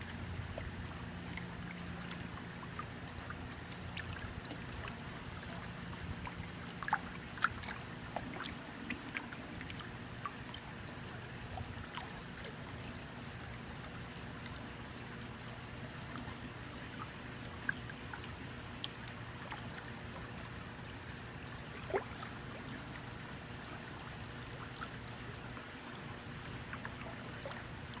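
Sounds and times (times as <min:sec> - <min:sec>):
faint low hum: 0:00.0 - 0:28.0
water trickling and gurgling: 0:00.0 - 0:28.0.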